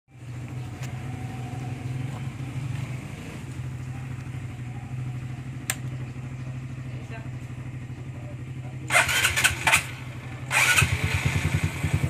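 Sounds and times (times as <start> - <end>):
motorcycle engine idling: 0.1 - 12.0.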